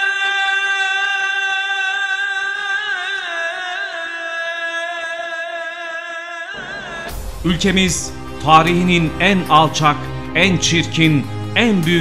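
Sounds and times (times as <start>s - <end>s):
person chanting: 0.0s - 12.0s.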